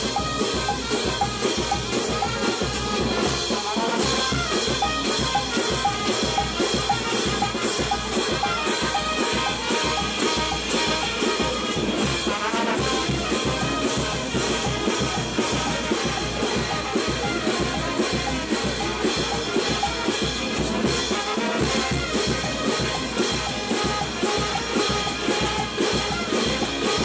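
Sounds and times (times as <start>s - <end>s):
brass band playing: 0.0s - 27.0s
steady drum beat: 0.0s - 27.0s.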